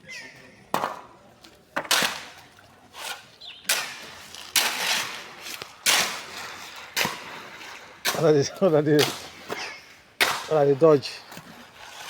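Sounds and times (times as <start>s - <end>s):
shovels scraping concrete mix: 0.7s - 12.0s.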